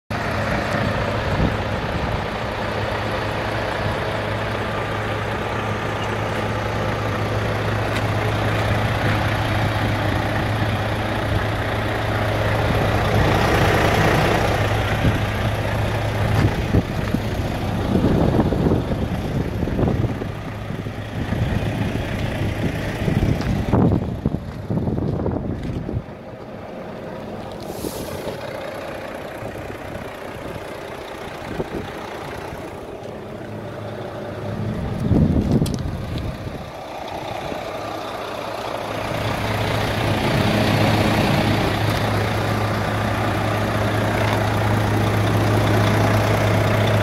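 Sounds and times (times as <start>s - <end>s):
diesel engine idling: 0.1s - 47.0s.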